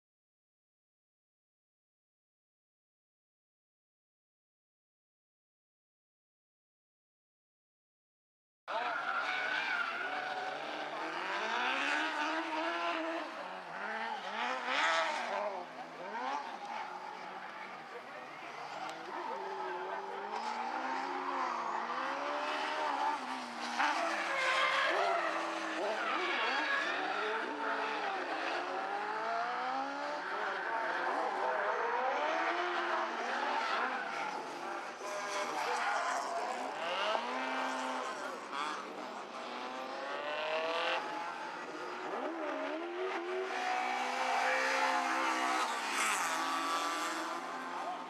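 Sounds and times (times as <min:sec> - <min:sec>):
rally car engine revving: 0:08.7 - 0:48.0.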